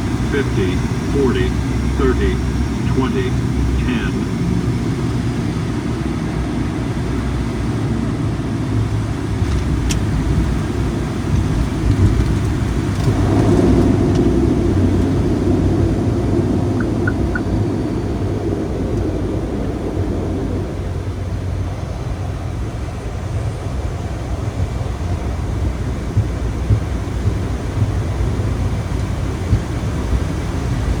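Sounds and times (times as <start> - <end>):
turboprop engines rumbling: 0.0 - 31.0.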